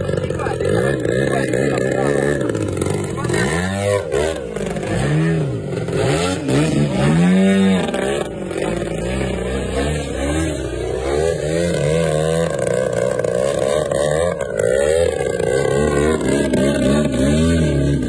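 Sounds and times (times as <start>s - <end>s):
model plane engine revving: 0.0s - 18.0s.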